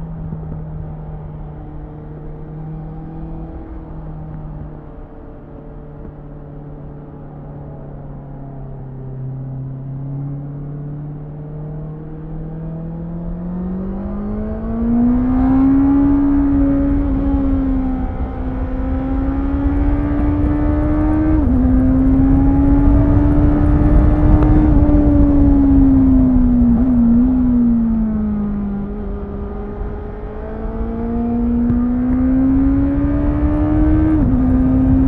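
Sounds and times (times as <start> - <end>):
motorcycle engine accelerating: 0.0 - 35.0
wind and road noise: 0.0 - 35.0.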